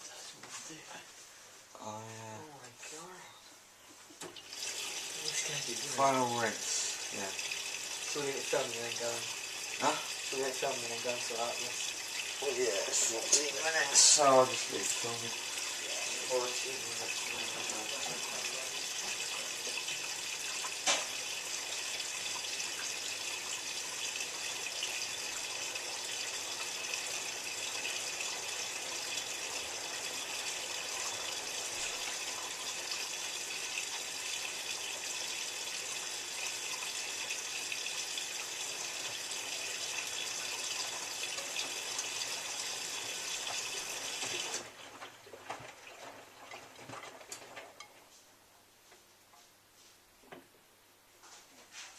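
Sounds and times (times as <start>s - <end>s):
water rushing into washing machine: 4.2s - 47.8s.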